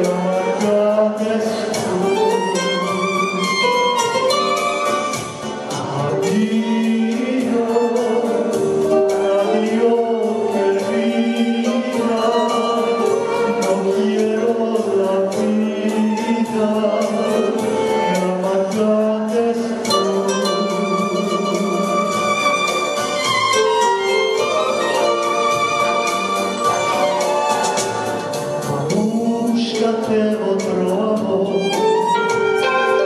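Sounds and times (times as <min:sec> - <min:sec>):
man singing into microphone: 0:00.0 - 0:04.8, 0:05.6 - 0:23.2, 0:28.7 - 0:33.0
violin: 0:00.0 - 0:33.0.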